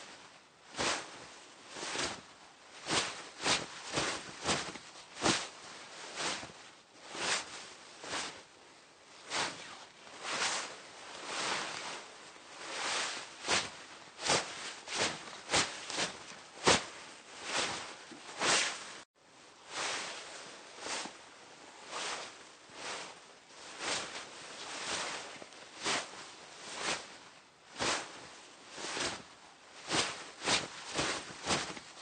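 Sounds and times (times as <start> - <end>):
fabric rustling and swishing: 0.0 - 32.0.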